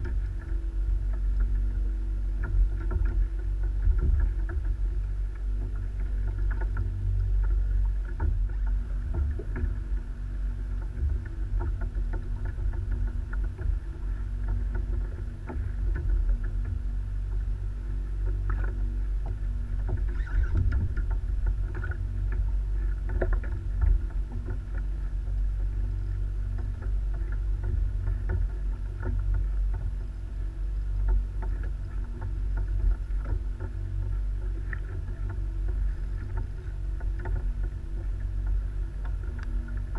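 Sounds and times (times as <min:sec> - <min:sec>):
light clicks and knocks: 0:00.0 - 0:39.9
water lapping against kayak hull: 0:00.0 - 0:39.9.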